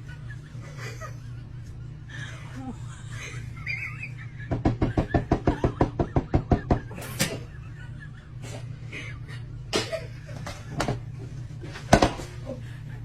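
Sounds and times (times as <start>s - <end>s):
person laughing hard: 0.0s - 11.1s
steady low hum: 0.0s - 13.0s.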